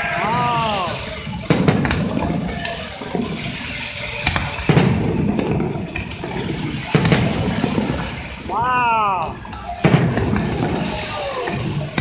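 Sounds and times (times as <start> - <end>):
fireworks crackling: 0.0 - 12.0
fireworks bangs: 0.5 - 8.5, 9.8 - 12.0.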